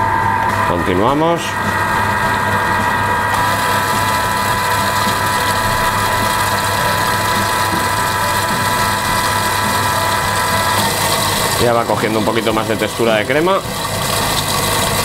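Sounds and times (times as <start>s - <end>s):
food processor motor whining: 0.0s - 15.0s.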